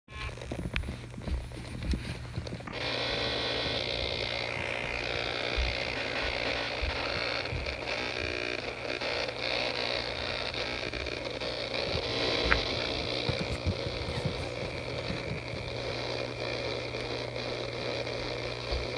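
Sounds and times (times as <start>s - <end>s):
distorted feedback noise: 0.1s - 18.9s
speaker hiss and hum: 0.1s - 18.9s.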